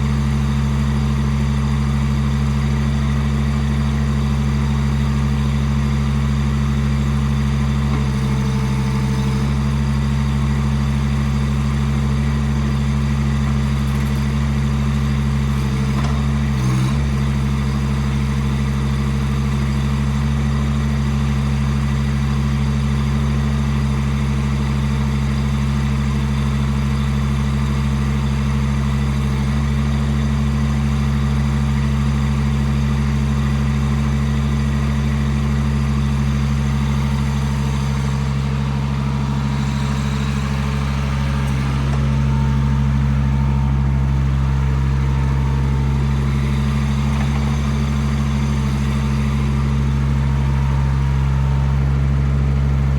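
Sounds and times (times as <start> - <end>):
small excavator engine running: 0.0 - 52.9.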